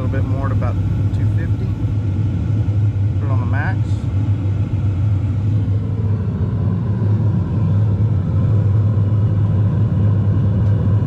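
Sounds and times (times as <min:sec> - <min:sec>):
pressure washer burner rumbling: 0:00.0 - 0:11.0.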